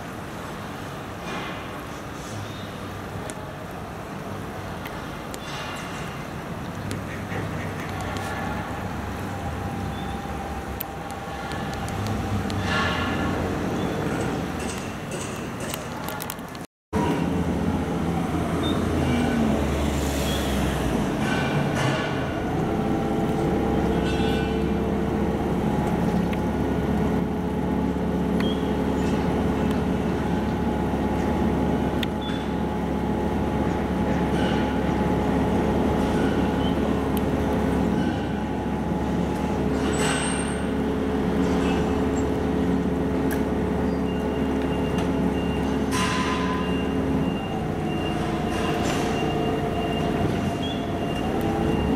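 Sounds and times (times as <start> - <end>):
steady mechanical drone: 0.0 - 51.9.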